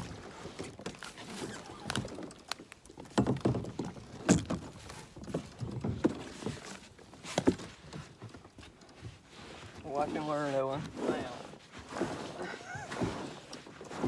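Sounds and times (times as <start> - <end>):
knocks and scrapes on plastic kayak: 0.0 - 14.0.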